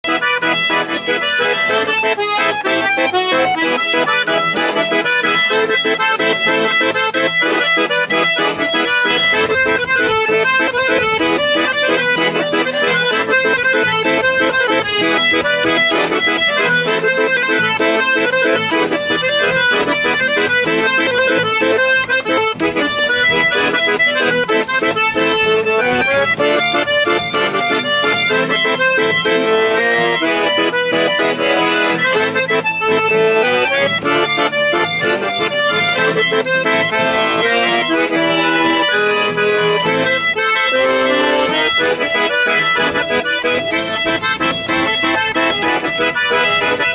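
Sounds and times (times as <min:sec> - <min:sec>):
accordion folk tune: 0:00.0 - 0:46.9.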